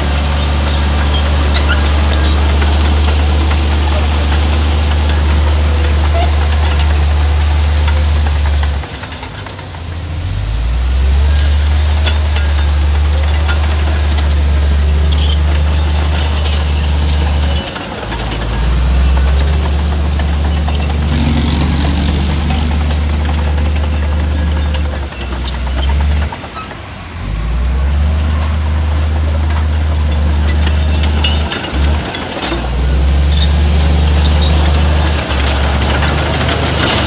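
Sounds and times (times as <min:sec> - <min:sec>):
heavy diesel engine under load: 0:00.0 - 0:37.0.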